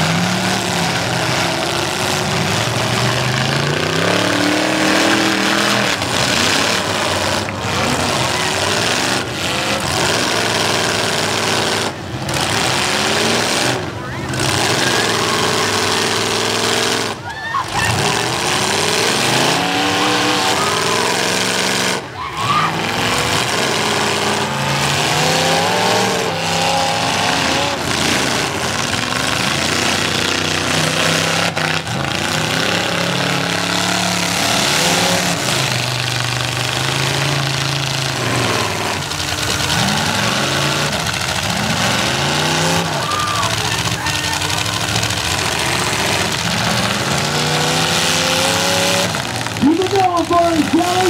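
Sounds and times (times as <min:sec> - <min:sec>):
car engines revving: 0:00.0 - 0:51.0
steady dense noise: 0:00.0 - 0:51.0.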